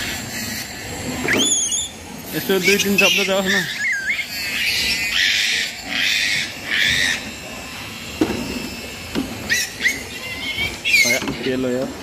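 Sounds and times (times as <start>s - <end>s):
piglet squealing: 0.0s - 11.8s.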